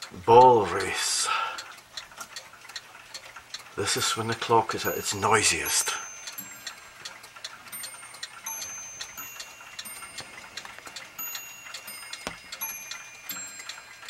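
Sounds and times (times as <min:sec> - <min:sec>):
ball clock clicks and clinks: 0:00.0 - 0:01.0, 0:01.7 - 0:14.0.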